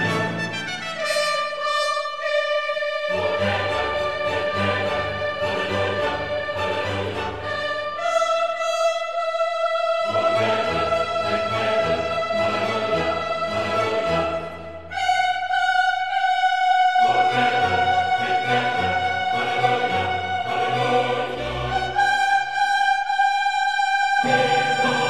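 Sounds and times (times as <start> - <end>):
slow classical music: 0.0 - 25.0.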